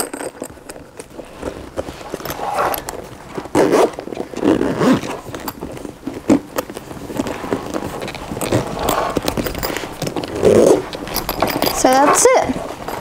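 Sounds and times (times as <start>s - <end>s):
zipper running: 0.0s - 13.0s.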